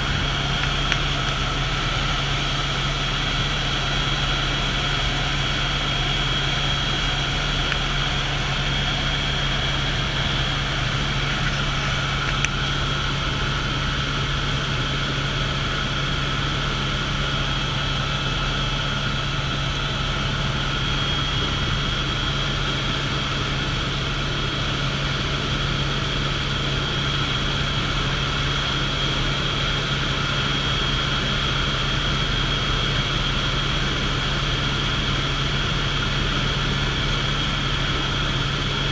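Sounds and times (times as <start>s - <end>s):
helicopter cabin drone: 0.0s - 38.9s.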